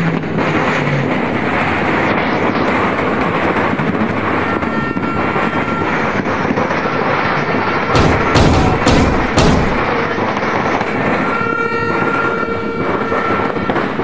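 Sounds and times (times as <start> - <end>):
distant fireworks crackling: 0.0 - 14.0.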